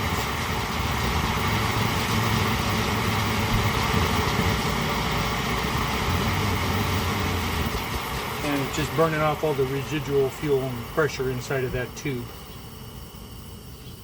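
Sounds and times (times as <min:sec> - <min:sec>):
stove burner burning steadily: 0:00.0 - 0:14.0.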